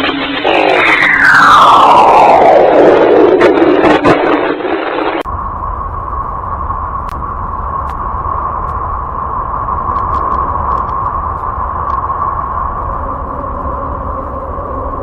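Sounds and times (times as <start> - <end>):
hissing drone: 0.0 - 15.0
low rumble: 0.0 - 15.0.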